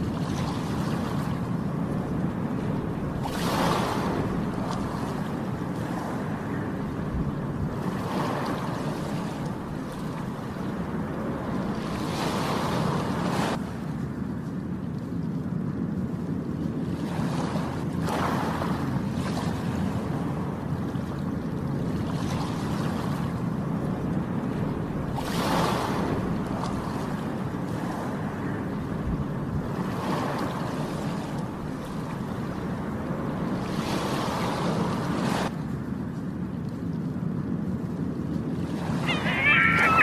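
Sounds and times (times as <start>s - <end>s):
low rumble of surf: 0.0s - 40.0s
sea waves breaking: 0.0s - 40.0s.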